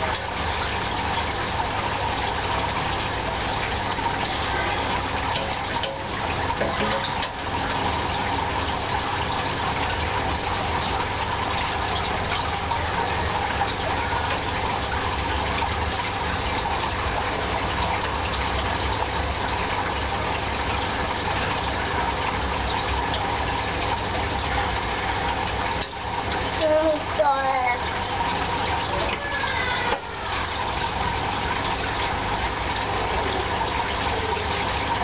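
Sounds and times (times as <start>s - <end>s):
running water: 0.0s - 35.0s.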